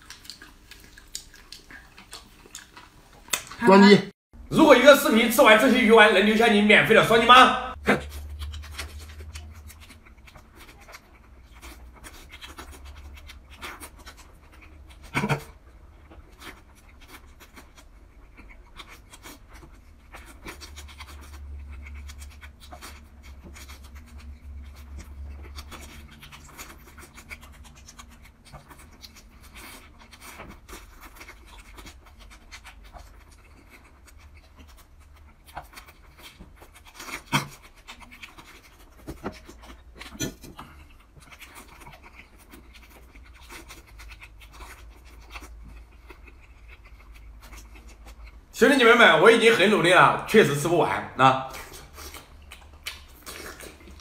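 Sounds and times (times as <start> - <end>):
chewing and slurping: 0.0 - 3.6, 7.7 - 48.5, 51.4 - 54.0.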